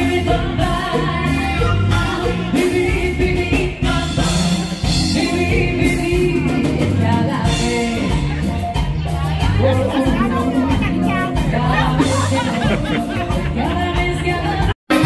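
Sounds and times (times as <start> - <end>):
pop or rock song with singing: 0.0 - 15.0.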